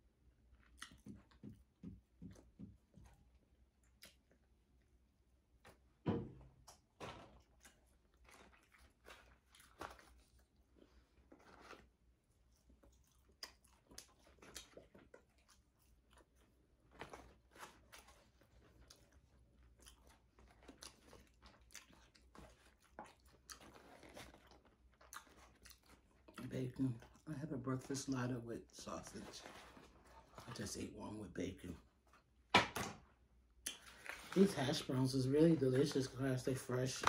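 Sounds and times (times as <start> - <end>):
crunchy chewing of food: 0.4 - 6.0, 6.6 - 30.9.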